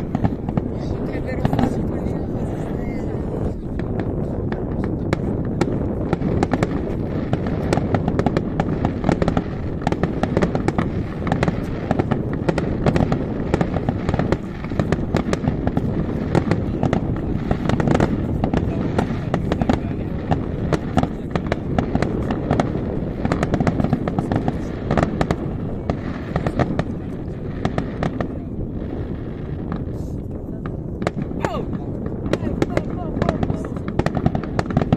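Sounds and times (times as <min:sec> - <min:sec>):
fireworks bursting and crackling: 0:00.0 - 0:34.9.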